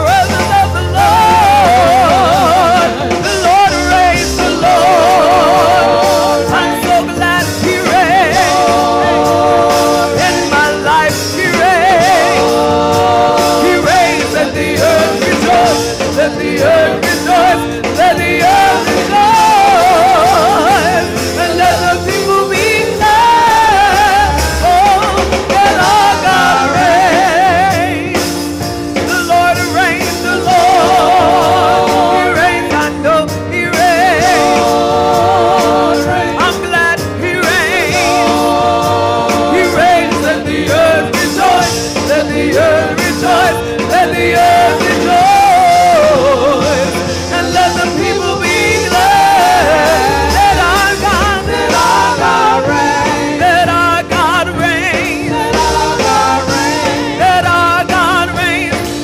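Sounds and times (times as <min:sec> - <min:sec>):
woman singing gospel: 0:00.0 - 0:28.4, 0:29.0 - 0:58.9
keyboard chords and bass: 0:00.0 - 0:59.0.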